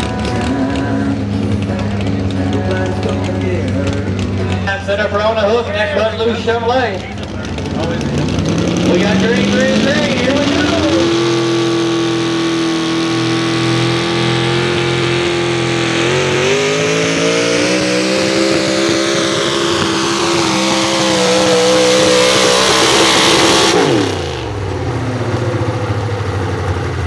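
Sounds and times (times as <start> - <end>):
truck engine at full throttle: 0.0 - 27.0.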